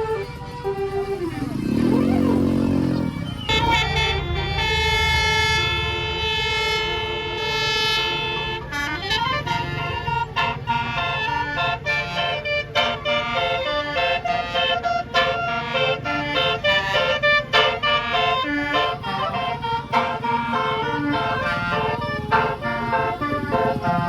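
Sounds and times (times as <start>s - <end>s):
bus engine running: 0.0s - 24.0s
musical air horn melody: 0.0s - 24.0s.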